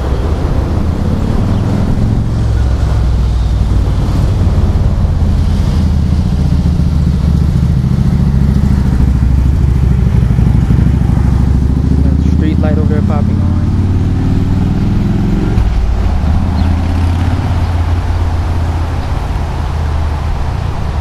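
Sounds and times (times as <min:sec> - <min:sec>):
gusty wind buffeting microphone: 0:00.0 - 0:12.1, 0:13.3 - 0:21.0.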